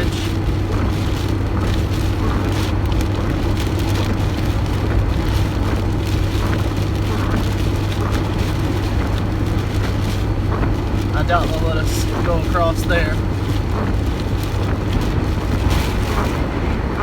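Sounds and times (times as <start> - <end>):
car driving hum: 0.0 - 17.0
rain noise: 0.0 - 17.0
rushing wind: 0.0 - 17.0.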